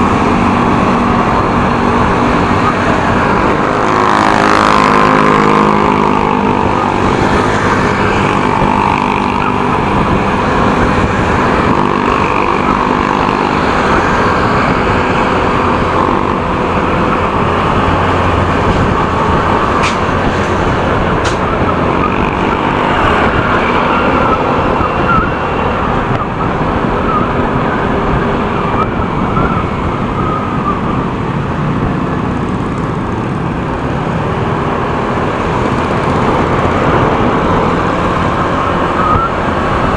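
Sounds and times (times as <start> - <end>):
motorcycle engine: 0.0 - 39.9
road traffic: 0.0 - 39.9
wind noise: 0.0 - 39.9.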